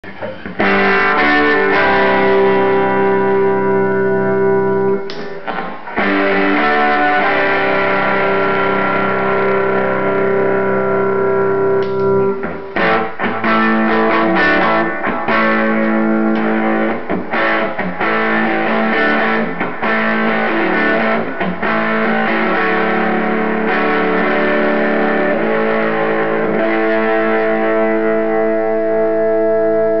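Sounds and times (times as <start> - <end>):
overdriven electric guitar chords: 0.0 - 30.0.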